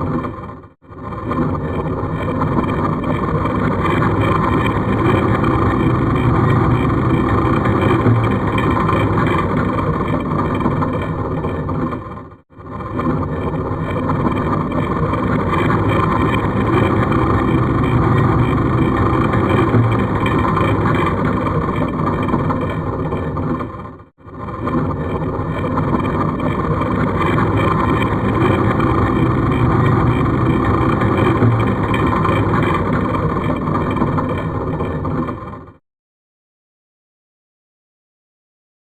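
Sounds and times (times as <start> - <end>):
stone grinding and scraping: 0.0 - 35.7.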